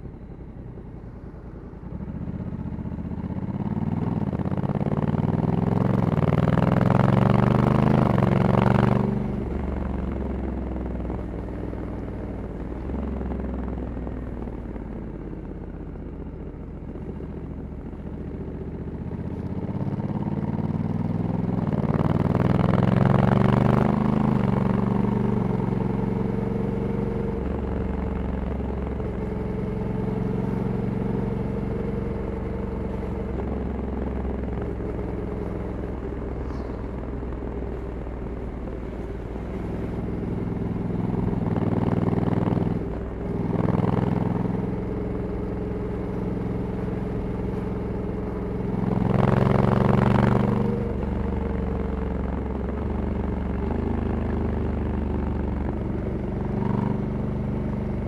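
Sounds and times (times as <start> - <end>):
motorcycle engine under way: 1.9 - 15.0, 16.0 - 58.0.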